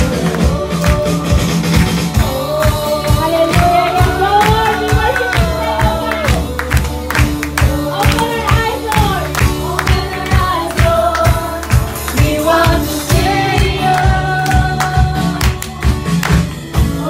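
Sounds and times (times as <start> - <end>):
group singing along: 0.0 - 17.0
live band playing upbeat song: 0.0 - 17.0
people clapping: 0.0 - 17.0.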